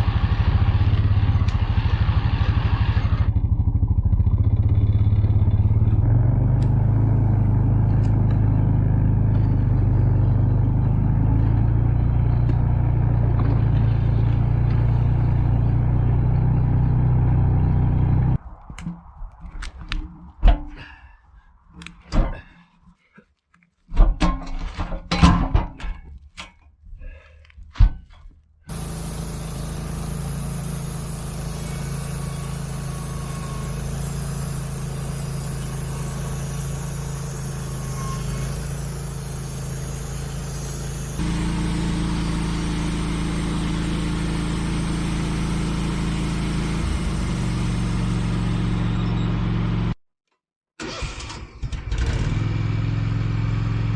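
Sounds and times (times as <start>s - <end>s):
engine humming: 0.0s - 21.9s, 28.7s - 50.0s.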